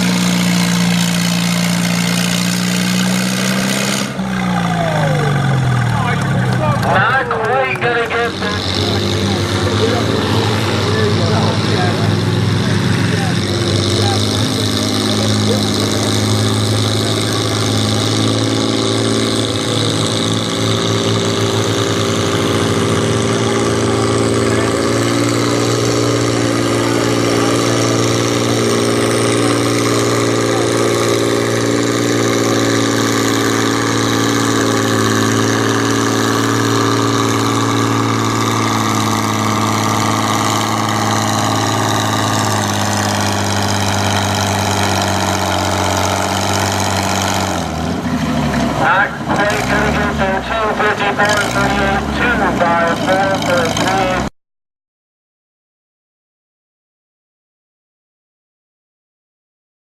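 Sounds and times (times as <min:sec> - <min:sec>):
tractor engine running: 0:00.0 - 0:54.3.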